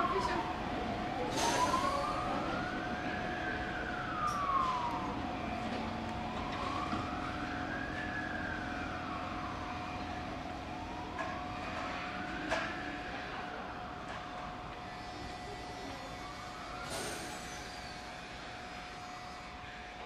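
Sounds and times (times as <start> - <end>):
low rumble of passing train: 0.0 - 20.0
siren wailing: 0.0 - 20.0.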